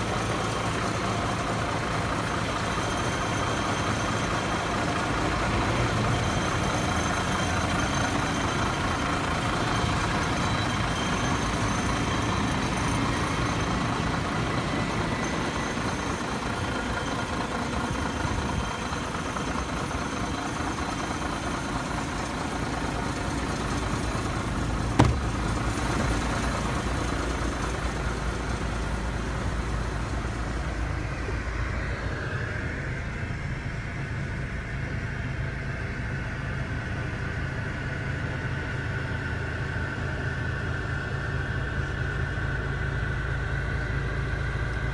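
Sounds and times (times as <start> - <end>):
diesel truck engine idling: 0.0 - 44.9.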